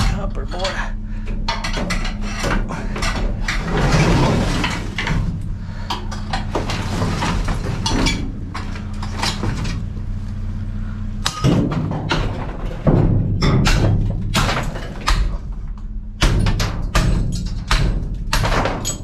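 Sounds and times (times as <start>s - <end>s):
metal scrap clanking in dumpster: 0.0s - 10.0s, 11.2s - 15.6s, 16.3s - 19.0s
low engine hum: 0.0s - 18.4s.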